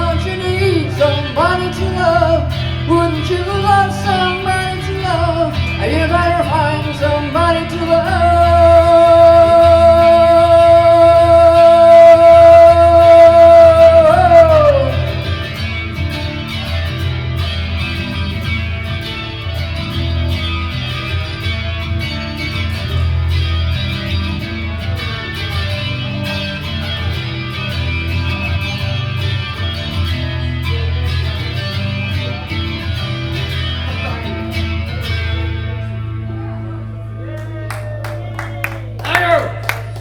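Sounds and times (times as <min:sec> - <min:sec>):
electric guitar rock music: 0:00.0 - 0:37.2.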